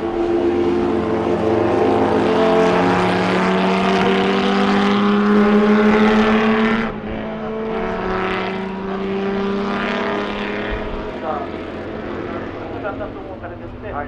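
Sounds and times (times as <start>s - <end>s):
racing car engine running: 0.0s - 14.0s.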